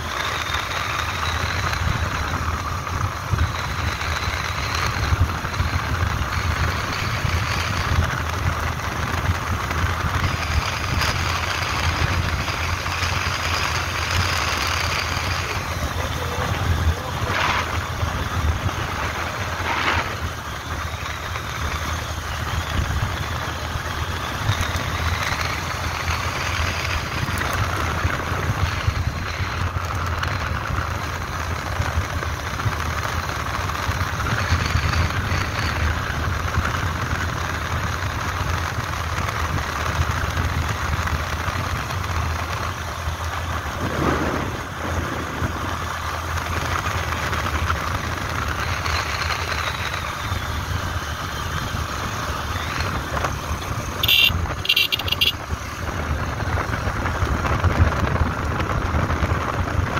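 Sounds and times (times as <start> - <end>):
road and wind noise: 0.0 - 59.9
vehicle engine running: 0.0 - 59.9.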